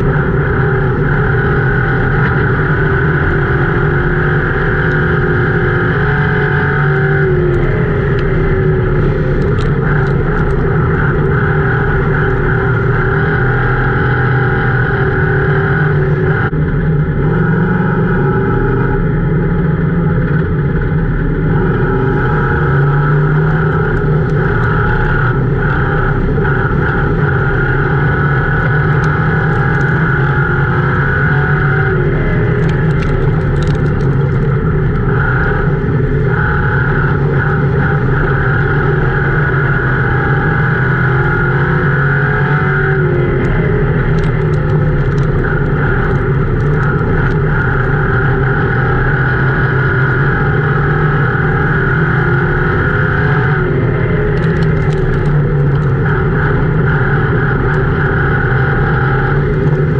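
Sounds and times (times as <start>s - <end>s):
race car engine running hard: 0.0s - 59.9s
road and chassis noise: 0.0s - 59.9s.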